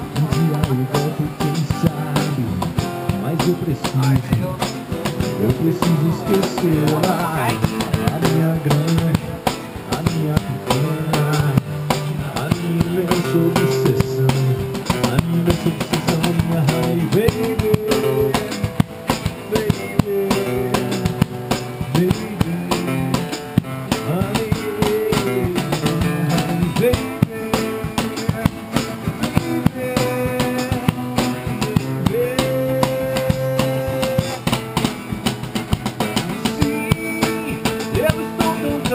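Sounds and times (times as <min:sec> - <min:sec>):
band with guitar and drums: 0:00.0 - 0:38.9.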